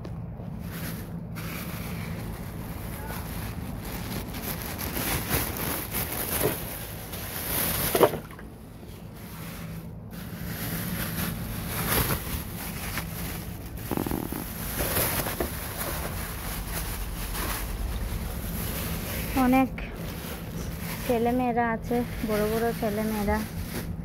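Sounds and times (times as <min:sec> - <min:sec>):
plastic bags rustling: 0:00.0 - 0:24.0.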